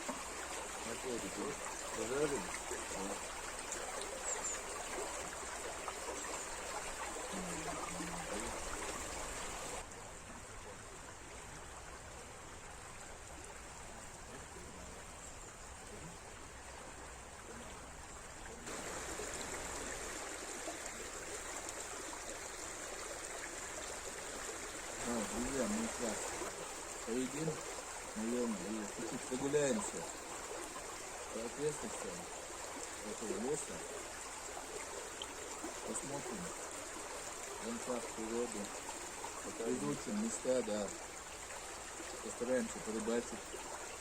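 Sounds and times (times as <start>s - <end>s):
forest stream running water: 0.0s - 44.0s.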